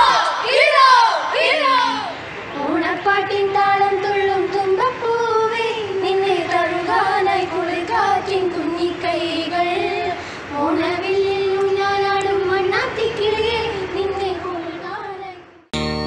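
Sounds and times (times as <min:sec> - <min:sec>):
young voices singing in unison: 0:00.0 - 0:15.6.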